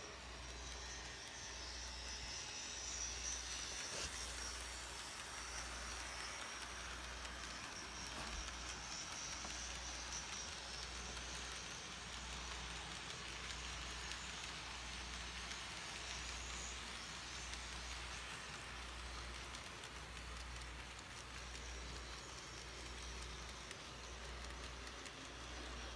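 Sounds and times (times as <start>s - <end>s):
model train wheels and motor hiss: 0.0s - 25.9s.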